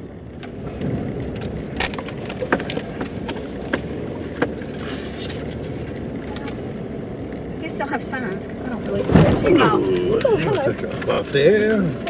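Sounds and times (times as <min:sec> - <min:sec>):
low rumble of tyres and engine: 0:00.0 - 0:12.0
truck rattling over bumps: 0:00.0 - 0:12.0.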